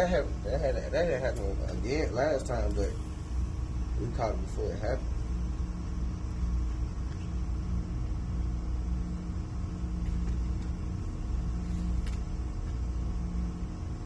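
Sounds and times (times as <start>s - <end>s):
faint constant hum: 0.0s - 14.0s
low mechanical rumble: 0.0s - 14.0s.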